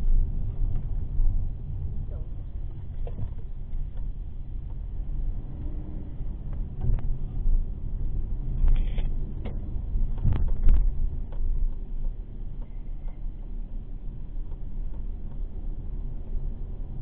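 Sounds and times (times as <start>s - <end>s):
car road noise rumble: 0.0s - 17.0s.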